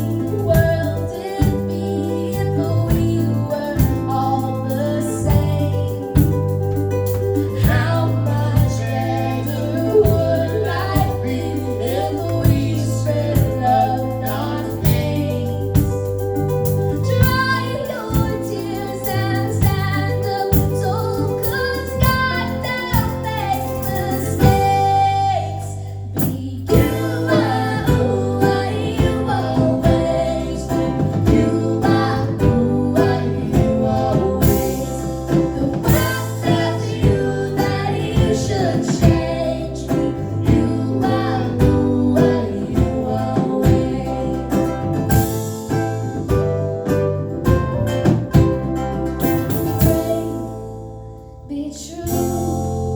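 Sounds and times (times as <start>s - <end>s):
woman singing: 0.0s - 16.2s, 16.8s - 45.5s, 49.3s - 52.9s
guitar and plucked strings: 0.0s - 52.9s.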